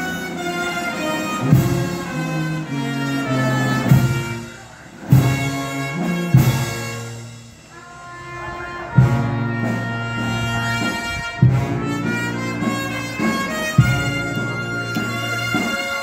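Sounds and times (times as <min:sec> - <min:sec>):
heavy percussion beat: 0:00.0 - 0:07.8, 0:08.8 - 0:16.0
brass band playing march: 0:00.0 - 0:16.0.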